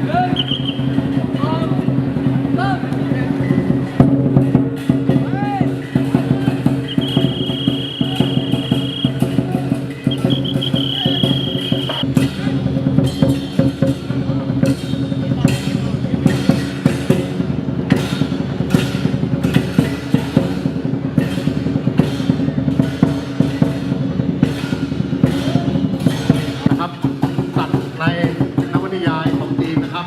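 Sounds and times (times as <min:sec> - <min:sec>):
crashing cymbals: 0:00.0 - 0:29.9
big drum beating fast: 0:00.0 - 0:30.0
drum and cymbal ensemble: 0:00.0 - 0:30.0.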